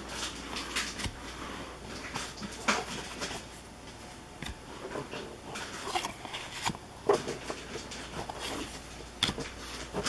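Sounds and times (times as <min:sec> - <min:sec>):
trading cards tapping and rustling: 0:00.1 - 0:10.0.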